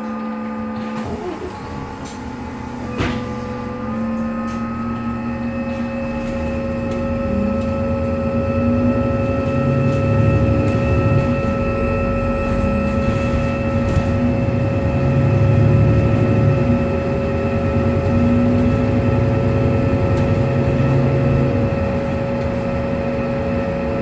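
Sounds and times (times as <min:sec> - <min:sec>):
bus whirring and whining: 0:00.0 - 0:24.0.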